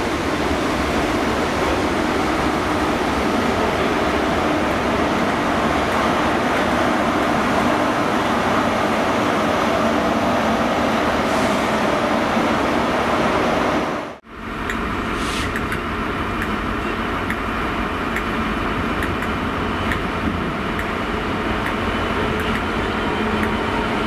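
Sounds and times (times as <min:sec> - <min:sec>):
diesel locomotive hum: 0:00.0 - 0:24.0
train wheels rumbling on rails: 0:00.0 - 0:24.0.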